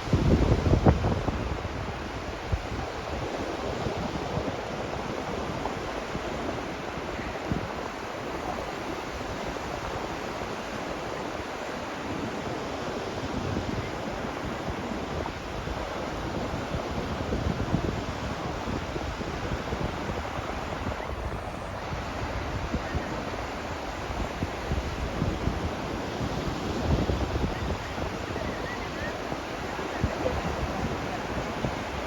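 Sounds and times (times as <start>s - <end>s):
sea waves on a beach: 0.0s - 32.0s
wind rumbling on microphone: 0.0s - 32.0s.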